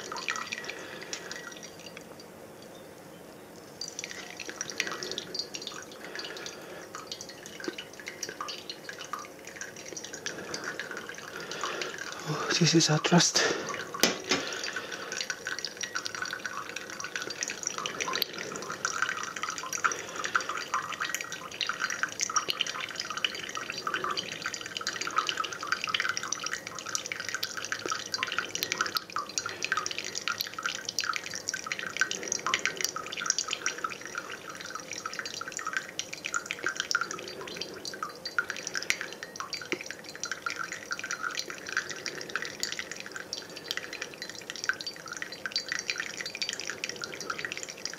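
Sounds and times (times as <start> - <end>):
coffee trickling into mug: 0.0 - 47.9.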